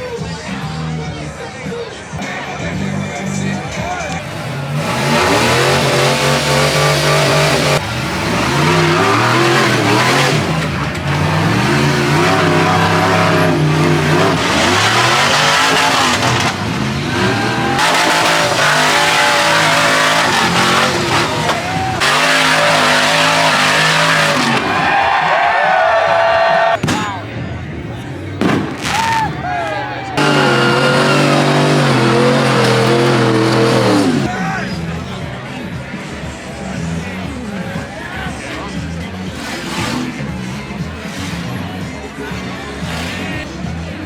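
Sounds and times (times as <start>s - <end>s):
race vehicle engines revving: 2.0s - 44.0s.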